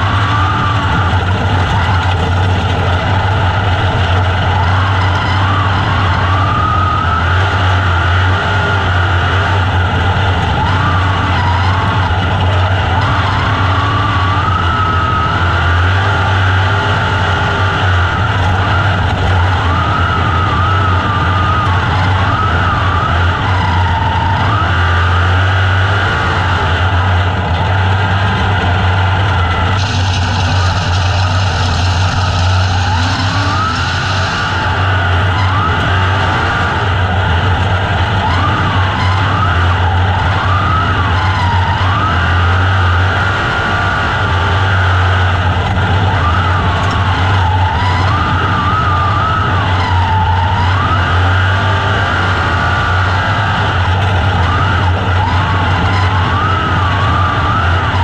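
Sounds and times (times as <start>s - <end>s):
racing car engine at high revs: 0.0s - 58.0s
wind and track noise: 0.0s - 58.0s.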